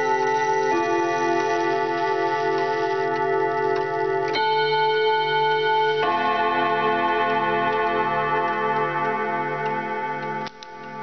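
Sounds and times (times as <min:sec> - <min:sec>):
clock chime rods ringing: 0:00.0 - 0:11.0.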